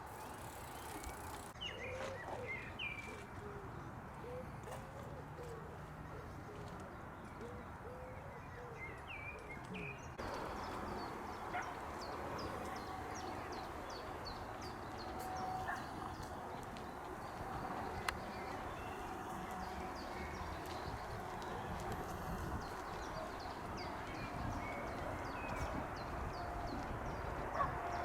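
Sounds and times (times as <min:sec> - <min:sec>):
scattered bird calls: 0:00.0 - 0:28.0
songbird singing: 0:00.0 - 0:28.0.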